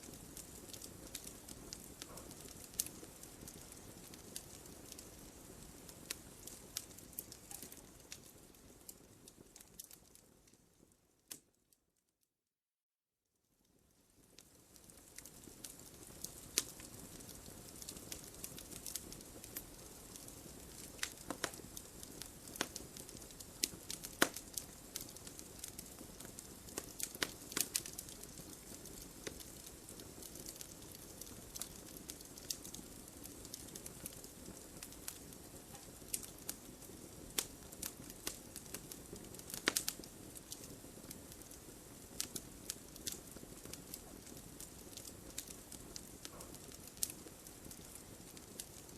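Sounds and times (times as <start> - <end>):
fire crackling and popping: 0.0 - 11.7, 13.6 - 48.9.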